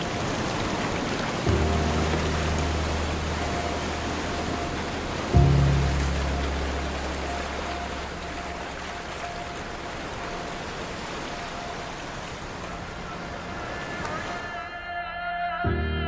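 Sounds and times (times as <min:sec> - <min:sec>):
ocean surf hissing: 0:00.0 - 0:14.6.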